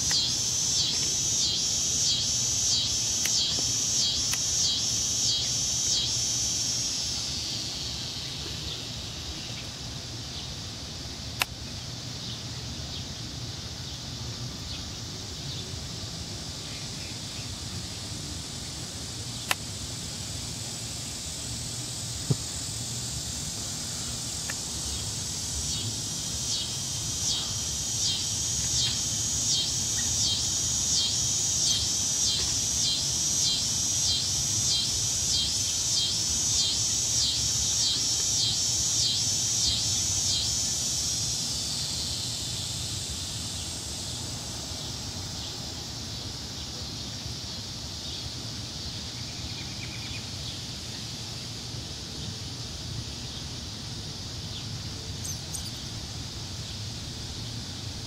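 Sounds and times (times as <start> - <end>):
insects pulsing buzz: 0.0 - 58.0.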